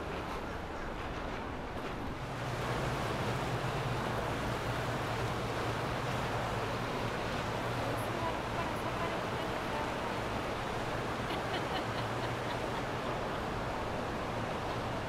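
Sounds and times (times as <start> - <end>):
bow wake rushing: 1.5 - 15.0
boat engine drone: 2.2 - 15.0.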